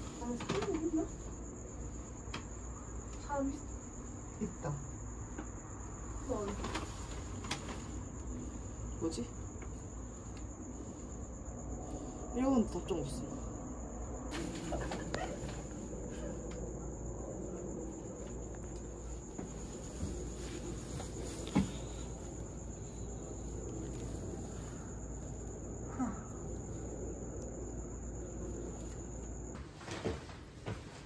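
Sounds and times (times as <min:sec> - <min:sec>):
crickets chirping: 0:00.0 - 0:31.0
low outdoor hum: 0:00.0 - 0:31.0.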